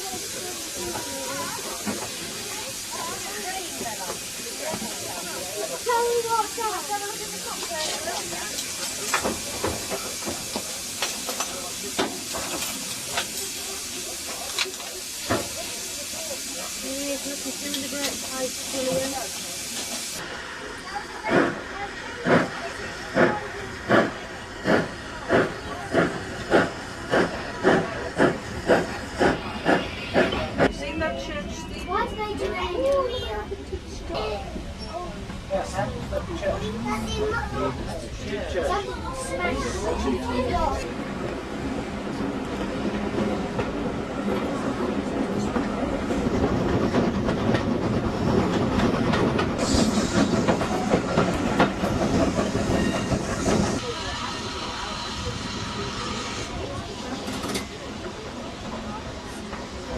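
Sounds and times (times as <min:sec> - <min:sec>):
steam locomotive chuffing: 0:00.0 - 0:32.2, 0:36.8 - 0:59.9
train rumble: 0:00.0 - 0:59.9.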